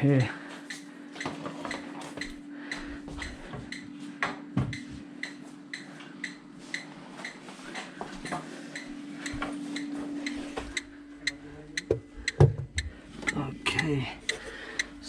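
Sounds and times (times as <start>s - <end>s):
electronic ticking: 0.0s - 4.0s, 4.6s - 7.4s, 8.2s - 15.0s
low hum: 1.7s - 15.0s.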